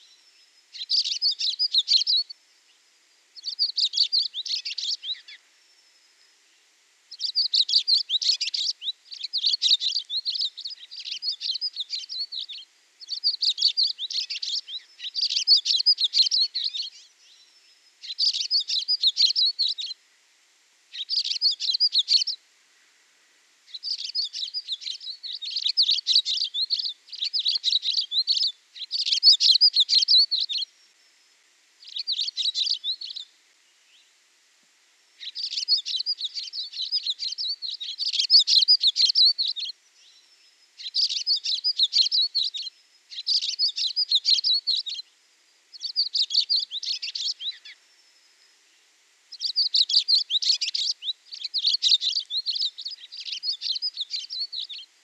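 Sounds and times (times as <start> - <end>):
songbird twittering: 0.0 - 2.8, 3.4 - 6.4, 7.1 - 20.0, 20.9 - 22.4, 23.7 - 30.7, 31.8 - 34.1, 35.2 - 45.1, 45.7 - 48.6, 49.3 - 55.0.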